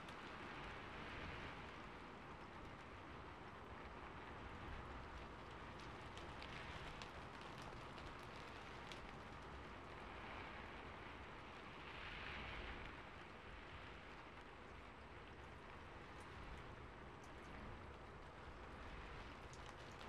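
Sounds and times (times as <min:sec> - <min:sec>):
rain patter on rooftop: 0:00.0 - 0:20.0.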